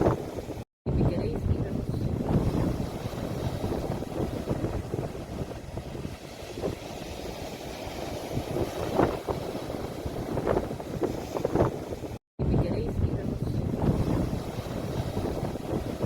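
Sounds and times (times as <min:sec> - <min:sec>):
sea waves washing: 0:00.0 - 0:16.0
wind rumbling on microphone: 0:00.0 - 0:16.0.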